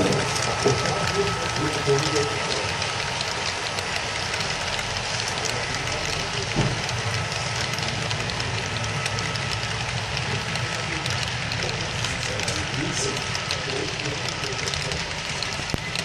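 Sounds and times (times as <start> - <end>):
model train wheels rumbling: 0.0 - 16.0.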